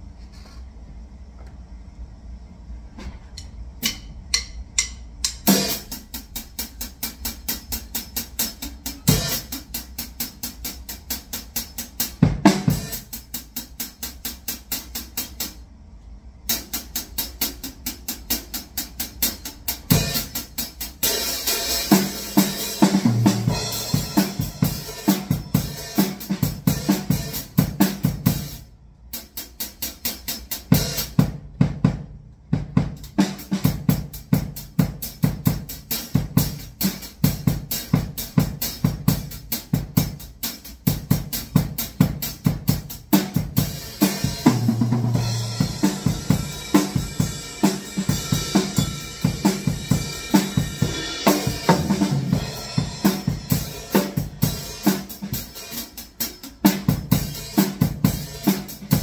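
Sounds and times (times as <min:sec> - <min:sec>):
drum kit groove: 0:03.3 - 0:15.6, 0:16.5 - 0:59.0.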